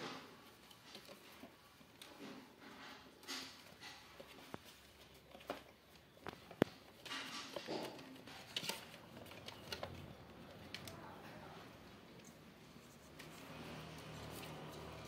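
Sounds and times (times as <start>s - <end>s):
kittens playing on hard floor: 0.0s - 15.0s.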